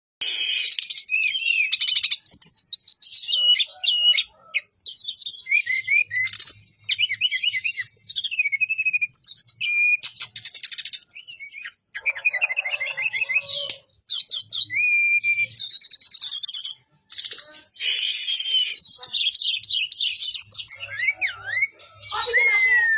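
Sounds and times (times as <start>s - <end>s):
songbird singing: 0.2s - 22.9s.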